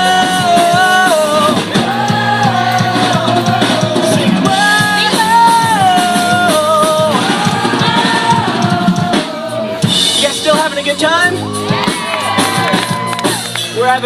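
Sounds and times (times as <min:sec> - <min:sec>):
drums: 0:00.0 - 0:14.0
live rock band playing: 0:00.0 - 0:14.0.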